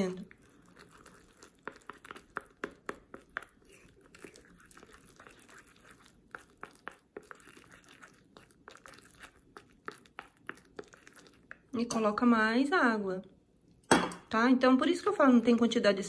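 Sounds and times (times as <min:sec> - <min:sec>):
squelching paste: 0:00.0 - 0:12.5, 0:14.8 - 0:16.0.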